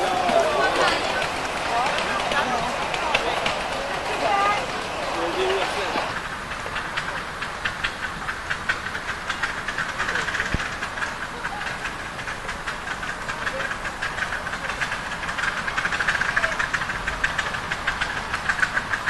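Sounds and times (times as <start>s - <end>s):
steam locomotive chuffing: 0.0s - 19.0s.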